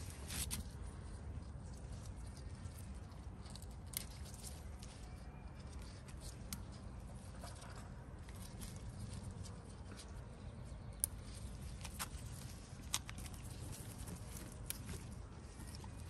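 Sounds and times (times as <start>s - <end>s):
stems clicking and snapping: 0.0s - 16.0s.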